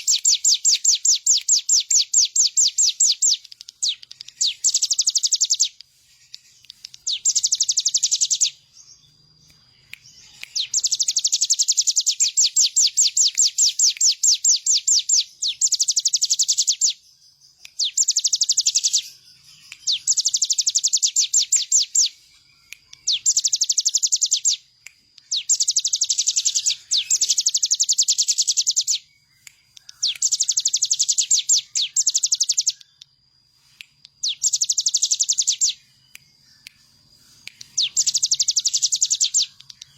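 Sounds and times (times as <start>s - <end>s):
bird singing rattling trills: 0.0s - 33.1s, 34.2s - 39.9s.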